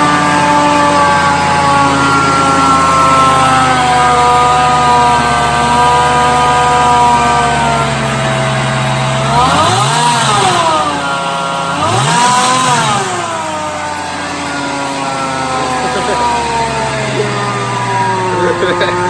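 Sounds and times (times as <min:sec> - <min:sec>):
car engine idling and revving: 0:00.0 - 0:19.0
supercharger whine: 0:00.0 - 0:19.0.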